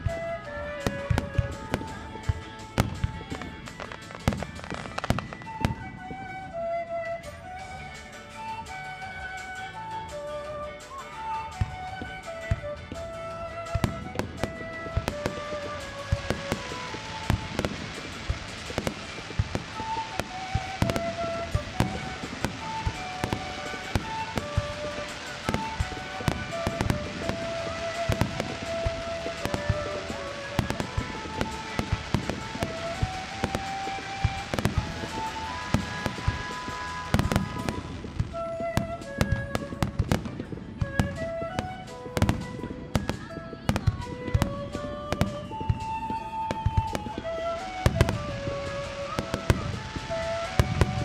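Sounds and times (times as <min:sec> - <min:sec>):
fireworks bursting: 0:00.0 - 0:51.0
slow melodic music: 0:00.0 - 0:51.0.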